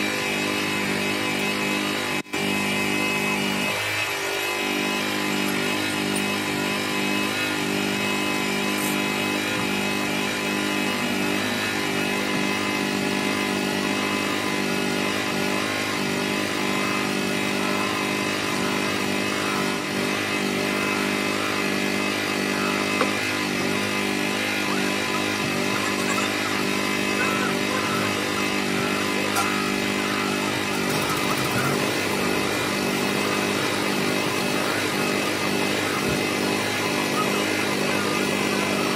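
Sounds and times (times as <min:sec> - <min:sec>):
buffing motor humming: 0:00.0 - 0:38.9.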